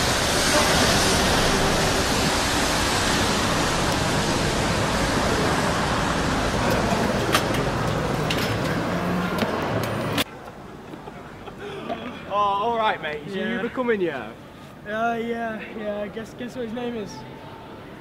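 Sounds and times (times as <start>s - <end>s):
traffic roar: 0.0s - 18.0s.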